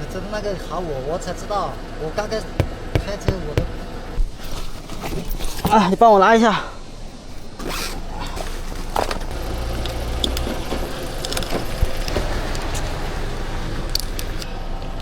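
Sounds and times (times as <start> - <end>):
car engine running: 0.2 - 5.6, 6.9 - 14.4.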